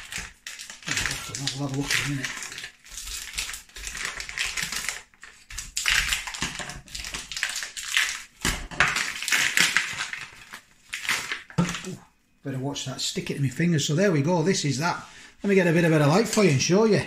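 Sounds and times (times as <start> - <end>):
plastic pack crinkling: 0.0 - 12.0, 14.8 - 16.7.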